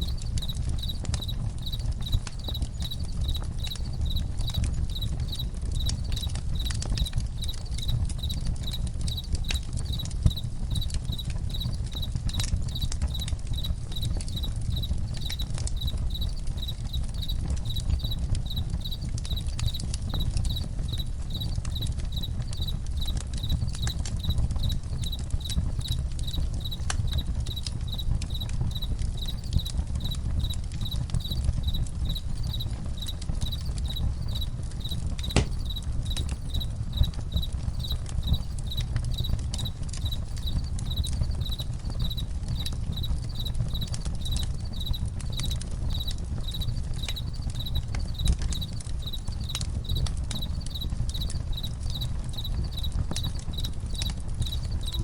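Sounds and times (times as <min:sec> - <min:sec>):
campfire crackling: 0:00.0 - 0:55.0
cricket chirping: 0:00.0 - 0:55.0.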